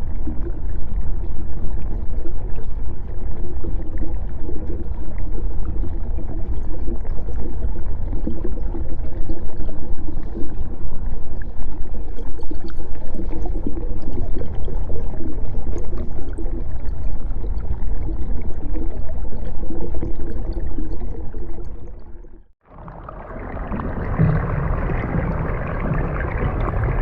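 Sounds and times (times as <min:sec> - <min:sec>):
underwater rumbling and gurgling: 0:00.0 - 0:27.0.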